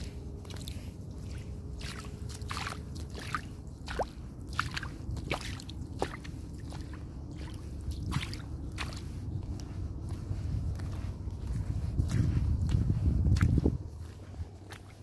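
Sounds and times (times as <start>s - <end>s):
footsteps splashing through water: 0.0s - 15.0s
low rumble: 0.0s - 15.0s.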